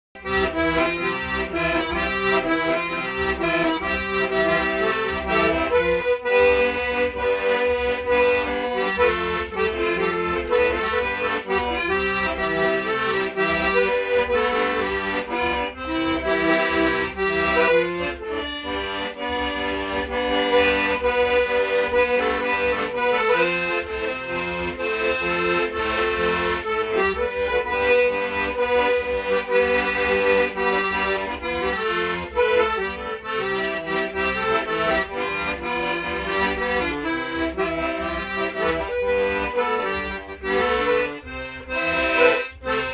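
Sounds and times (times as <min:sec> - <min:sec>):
accordion playing quick tune: 0:00.2 - 0:42.9.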